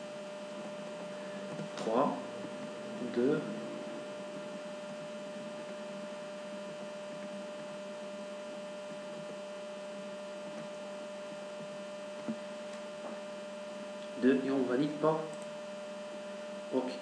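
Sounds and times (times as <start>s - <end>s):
constant whine: 0.0s - 17.0s
electrical hum: 0.0s - 17.0s.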